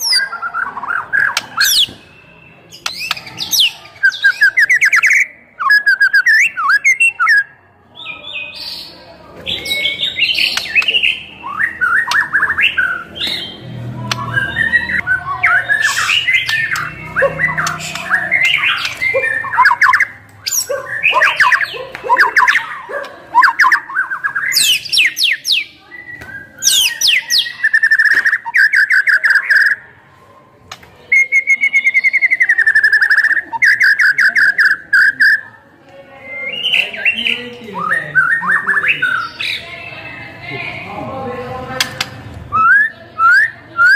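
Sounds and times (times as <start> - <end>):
songbird singing trills and whistles: 0.0 - 29.8, 31.0 - 40.8, 42.0 - 43.9.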